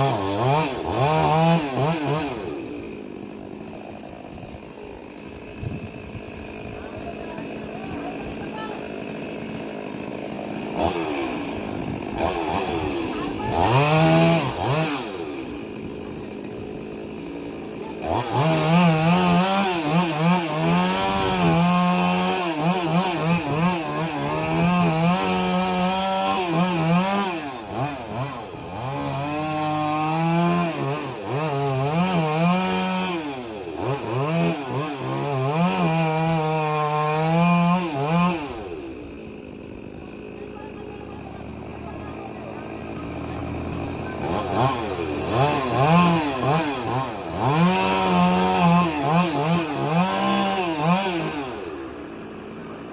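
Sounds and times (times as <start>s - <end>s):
chainsaw revving and cutting: 0.0s - 52.9s.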